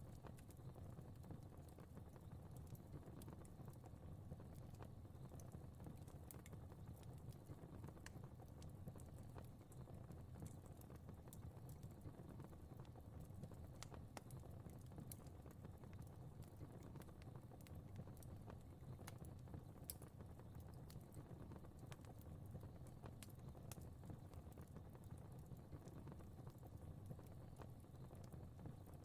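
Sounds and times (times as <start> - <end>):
fire crackling: 0.0 - 29.0
low rumble of burning: 0.0 - 29.0.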